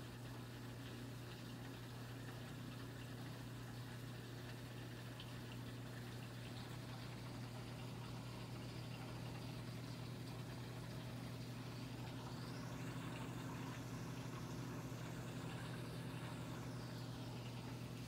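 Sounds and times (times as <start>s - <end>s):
low hum of pumps: 0.0s - 18.0s
water trickling: 0.0s - 18.0s.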